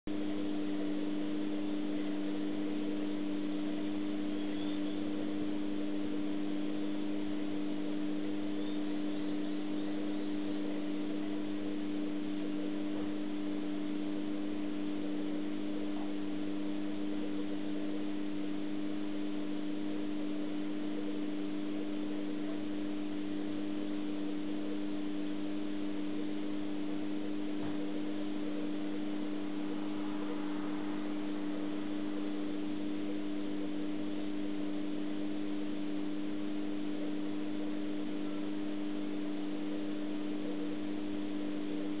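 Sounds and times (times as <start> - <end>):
aquarium pump humming: 0.1 - 42.0.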